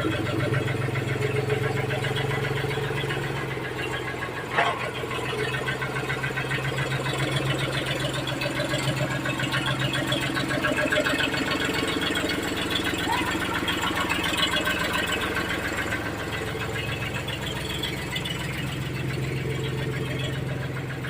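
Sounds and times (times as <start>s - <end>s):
tractor diesel engine clattering: 0.0s - 21.0s.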